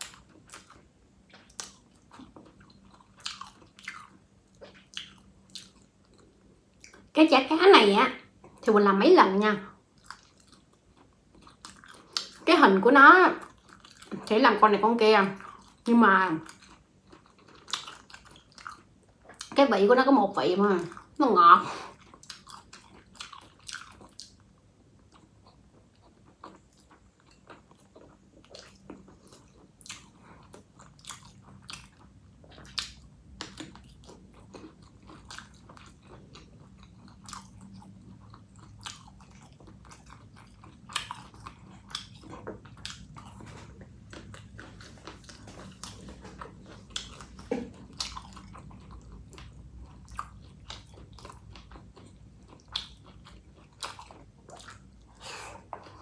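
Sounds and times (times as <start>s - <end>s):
person chewing food: 0.0s - 7.2s, 9.8s - 12.5s, 13.4s - 14.3s, 15.4s - 19.6s, 20.8s - 56.0s.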